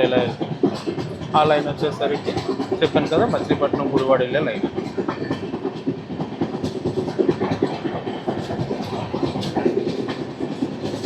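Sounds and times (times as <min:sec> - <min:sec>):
train wheels clattering over rails: 0:00.0 - 0:11.0.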